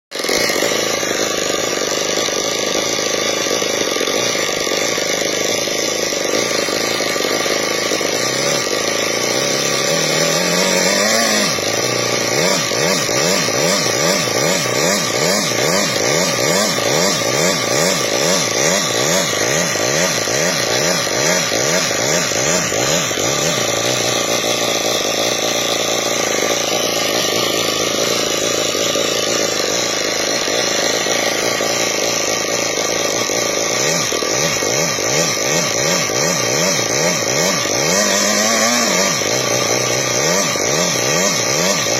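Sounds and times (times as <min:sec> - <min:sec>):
single-cylinder engine revving: 0:00.1 - 0:41.9.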